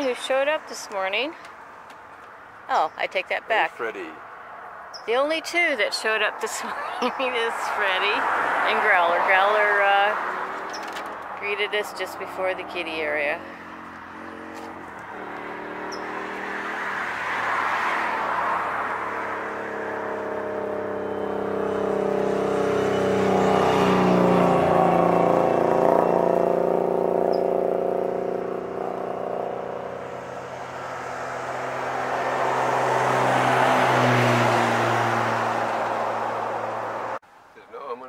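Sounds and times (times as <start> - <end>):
passing traffic engine hum: 0.0 - 37.2.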